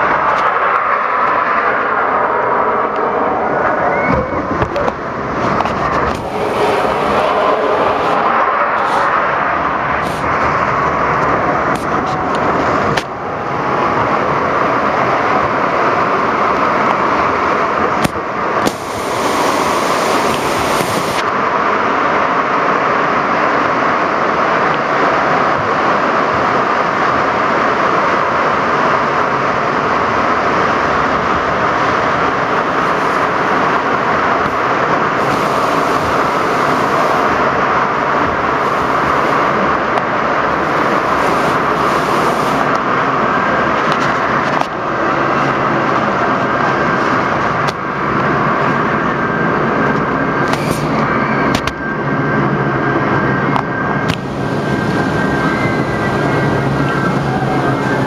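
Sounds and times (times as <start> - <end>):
churning white water rushing: 0.0 - 58.0.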